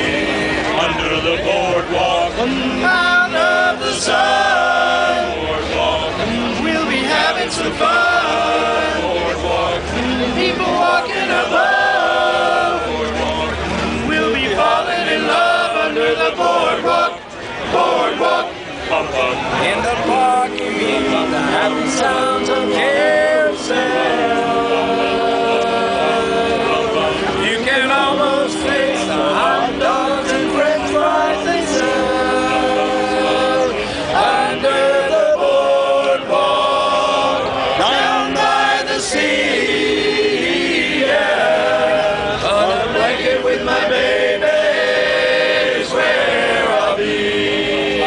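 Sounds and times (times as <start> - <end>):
male quartet singing a cappella: 0.0 - 48.0.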